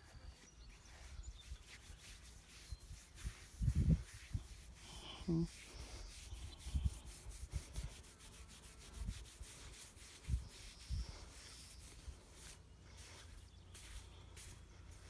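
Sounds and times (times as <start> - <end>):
hand scratching animal fur: 0.0 - 15.0.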